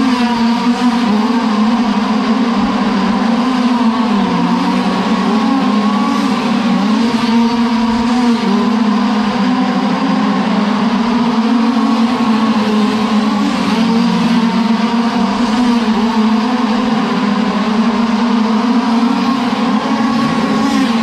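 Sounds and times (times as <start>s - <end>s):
model race car engines at high revs: 0.0s - 21.0s.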